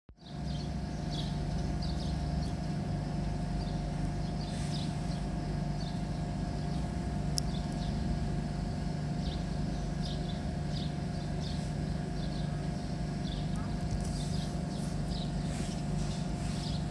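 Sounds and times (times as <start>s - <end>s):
faint hum: 0.2s - 16.9s
small birds chirping: 0.2s - 16.9s.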